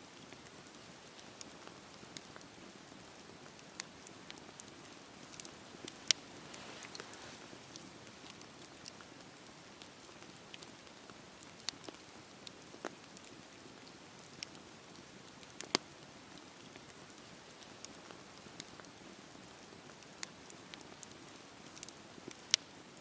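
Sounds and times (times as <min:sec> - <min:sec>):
wood fire crackling: 0:00.1 - 0:23.0.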